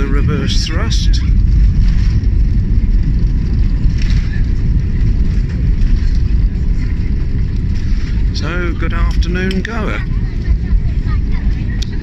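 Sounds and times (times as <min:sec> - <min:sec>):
jet engines reverse thrust roar: 0:00.0 - 0:12.0.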